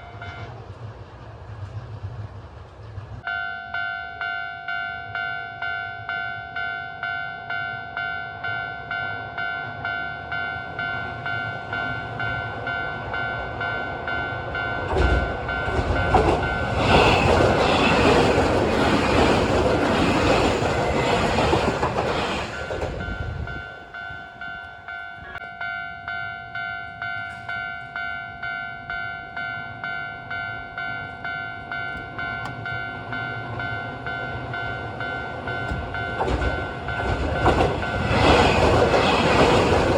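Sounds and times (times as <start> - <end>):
electric train passing: 0.0 - 39.9
level crossing alarm ringing: 3.3 - 39.9.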